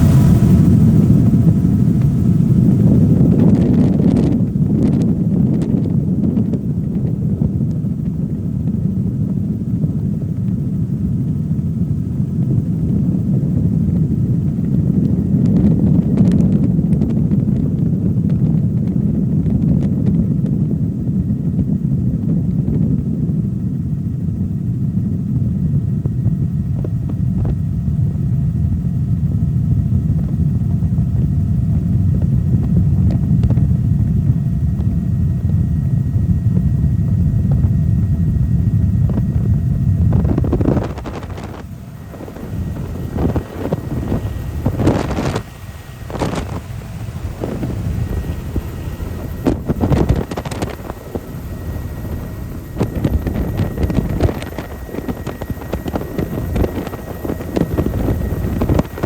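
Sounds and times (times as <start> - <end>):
helicopter rumble: 0.0 - 59.0
wind buffeting microphone: 0.0 - 59.0.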